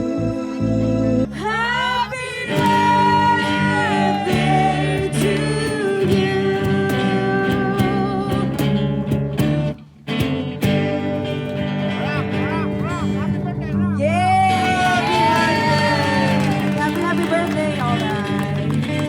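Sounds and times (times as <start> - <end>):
guitar accompaniment: 0.0 - 19.0.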